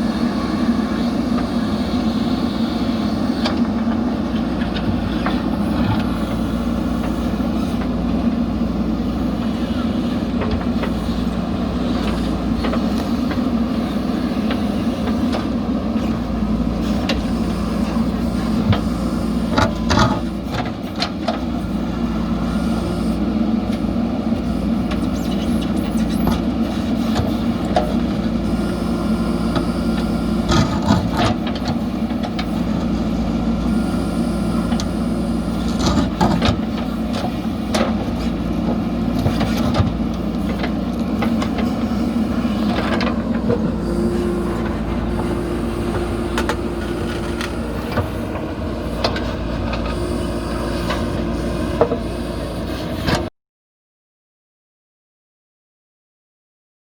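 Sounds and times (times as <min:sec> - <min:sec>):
diesel engine running: 0:00.0 - 0:53.3.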